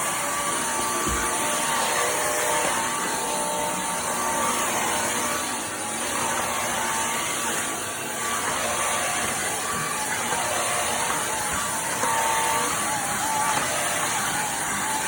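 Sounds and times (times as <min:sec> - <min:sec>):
stick vacuum running: 0:00.0 - 0:15.0.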